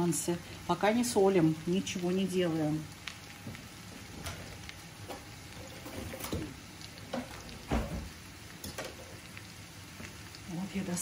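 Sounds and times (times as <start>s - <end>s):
potatoes sizzling in a pan: 0.0s - 11.0s.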